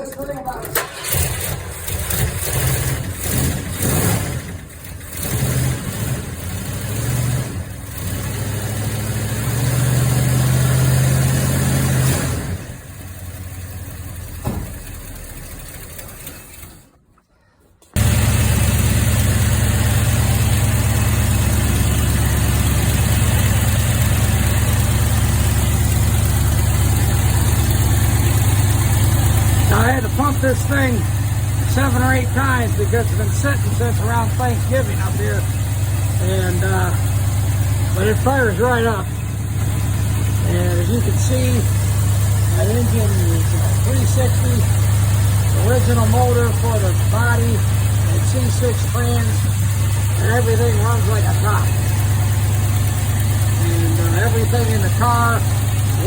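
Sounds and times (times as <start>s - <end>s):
truck engine starting and idling: 0.0s - 56.0s.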